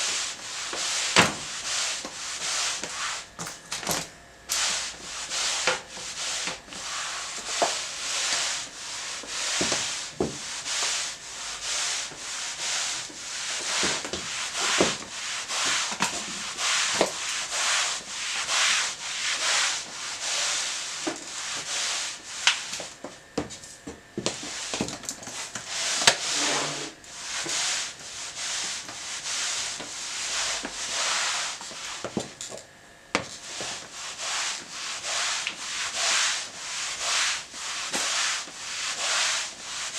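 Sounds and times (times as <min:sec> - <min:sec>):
mop swishing across hard floor: 0:00.0 - 0:23.6, 0:24.2 - 0:32.4, 0:33.2 - 0:39.9.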